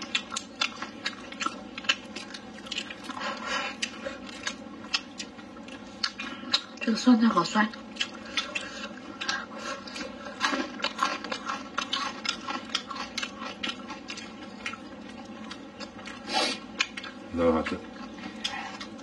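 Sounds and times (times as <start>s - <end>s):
moist chewing and smacking: 0.0s - 7.0s, 7.7s - 19.0s.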